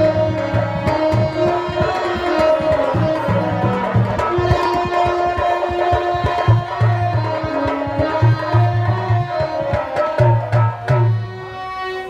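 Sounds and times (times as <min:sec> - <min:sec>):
hand drums: 0:00.0 - 0:11.6
harmonium: 0:00.0 - 0:12.0.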